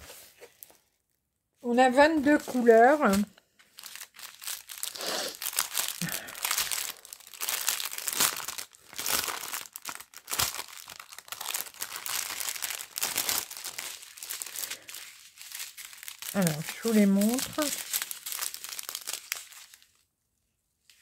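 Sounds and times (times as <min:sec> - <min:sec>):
plastic wrapping crinkling: 0:02.2 - 0:20.1.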